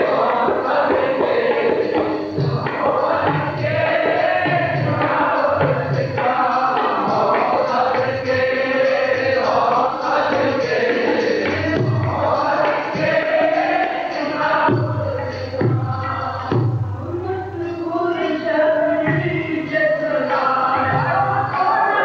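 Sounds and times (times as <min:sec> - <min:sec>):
harmonium: 0:00.0 - 0:22.0
men singing together: 0:00.0 - 0:22.0.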